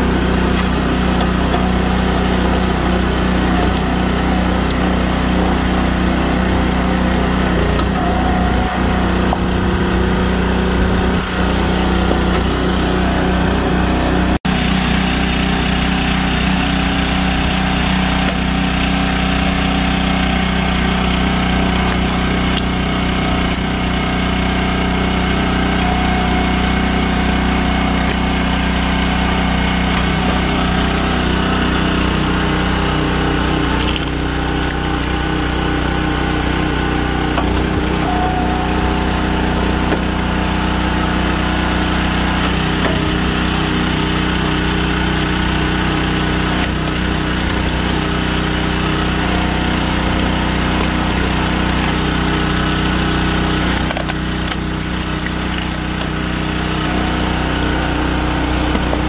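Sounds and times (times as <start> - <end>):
log splitter engine running: 0.0 - 59.0.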